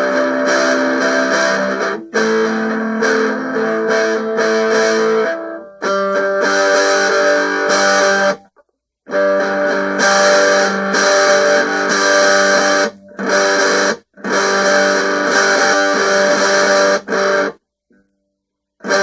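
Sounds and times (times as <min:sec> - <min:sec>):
guitar ringing chords: 0:00.0 - 0:08.5, 0:09.1 - 0:18.1.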